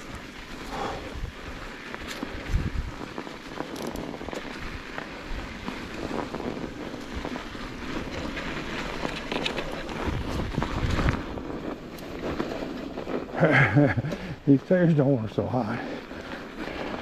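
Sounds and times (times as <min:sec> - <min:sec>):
wind noise on microphone: 0:00.0 - 0:14.4
bike tyres crunching through snow: 0:00.0 - 0:17.0
small crackles and rattles: 0:00.0 - 0:17.0.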